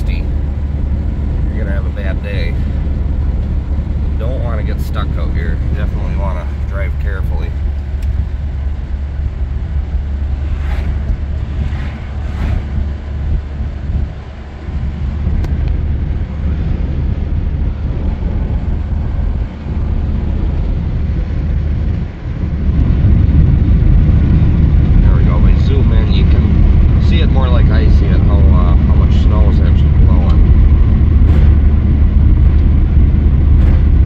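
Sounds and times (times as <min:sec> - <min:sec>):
road and wind noise in car: 0:00.0 - 0:34.0.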